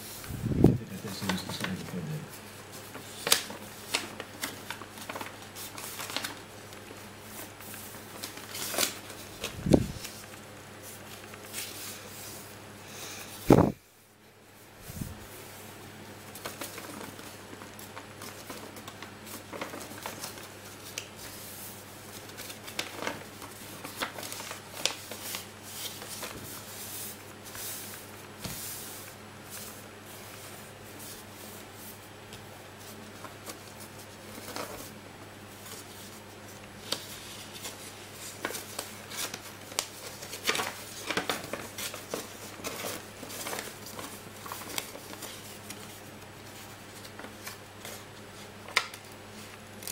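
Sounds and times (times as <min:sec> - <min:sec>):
paper being folded and creased: 0:00.8 - 0:12.4, 0:16.2 - 0:31.9, 0:32.8 - 0:49.9.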